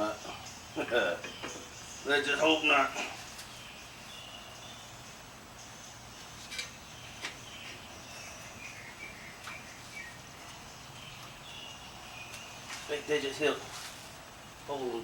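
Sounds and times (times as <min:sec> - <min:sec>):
insects chirping: 0:00.0 - 0:13.6
birds chirping: 0:00.0 - 0:15.0.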